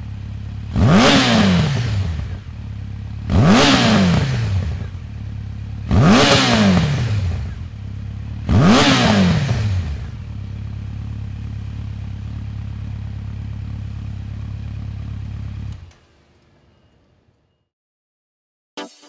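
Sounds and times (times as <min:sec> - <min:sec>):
motorcycle engine revving and idling: 0:00.0 - 0:16.5.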